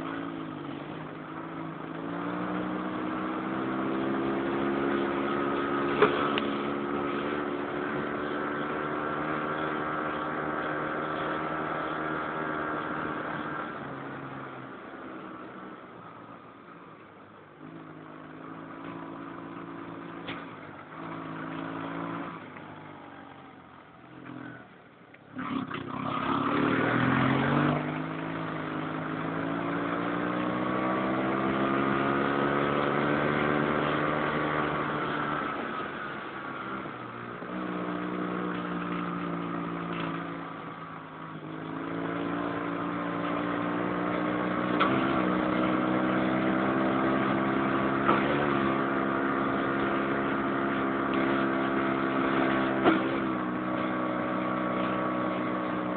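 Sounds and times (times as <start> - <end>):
dune buggy engine revving: 0.0 - 15.7, 17.6 - 55.9.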